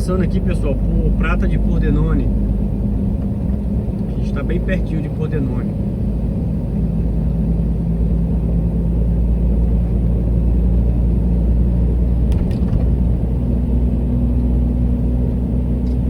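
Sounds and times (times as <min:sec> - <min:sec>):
road rumble: 0:00.0 - 0:16.0
truck diesel engine running: 0:00.0 - 0:16.0.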